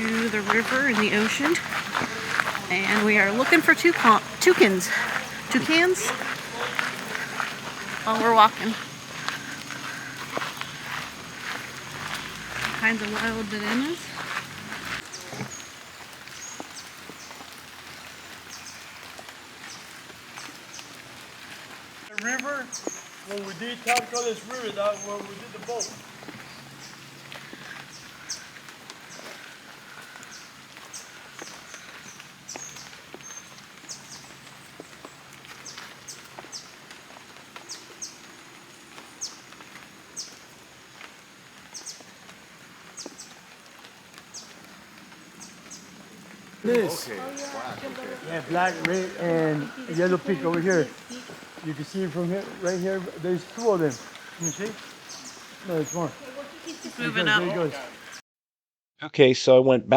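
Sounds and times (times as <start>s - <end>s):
birds chirping: 0.0s - 58.2s
steady hiss: 0.0s - 58.2s.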